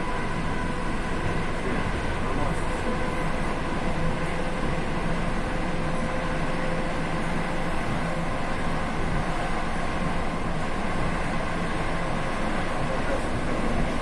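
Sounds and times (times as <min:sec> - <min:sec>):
wheels rumbling on rails: 0:00.0 - 0:14.0.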